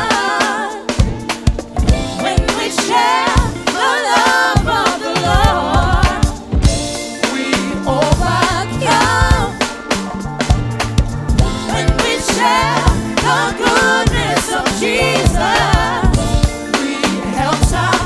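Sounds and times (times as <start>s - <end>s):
upbeat gospel song with drums: 0.0s - 18.0s.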